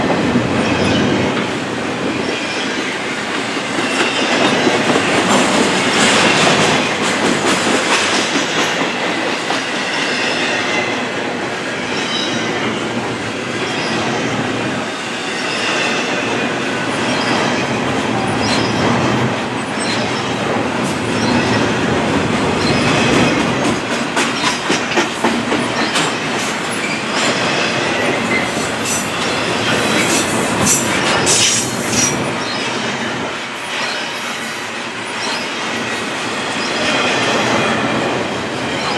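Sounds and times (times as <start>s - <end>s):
wheels clacking over rail joints: 0.0s - 10.2s, 15.5s - 38.9s
train wheels rumbling on rails: 0.0s - 38.9s.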